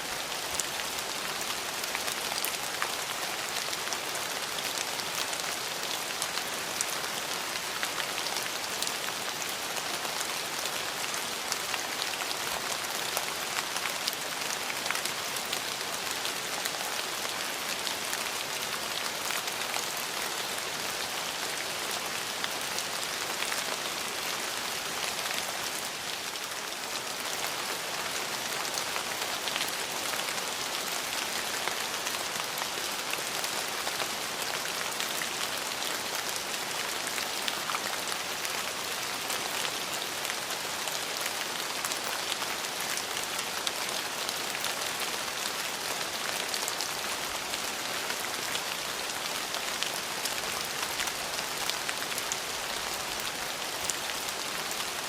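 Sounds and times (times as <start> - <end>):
rain on a hard surface: 0.0 - 55.0.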